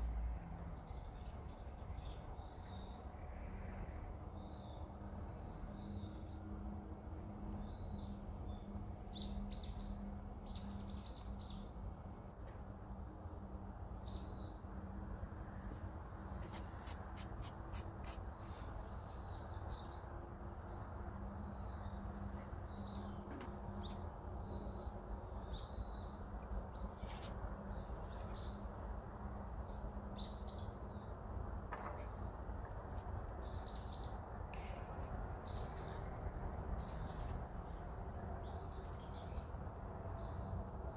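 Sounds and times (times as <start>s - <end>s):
insects chirping: 0.0s - 39.6s.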